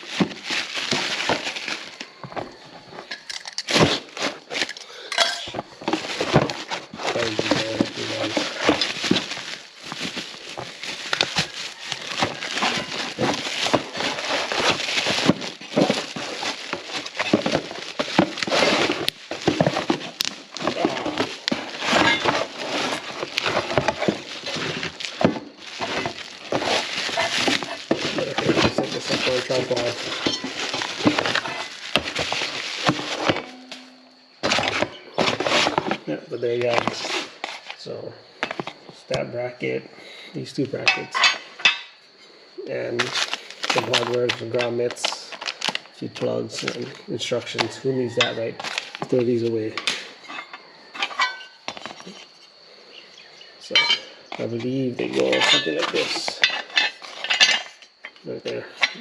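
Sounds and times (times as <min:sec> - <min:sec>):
packaging rustling: 0:00.0 - 0:38.9, 0:42.9 - 0:53.1, 0:55.0 - 0:58.2.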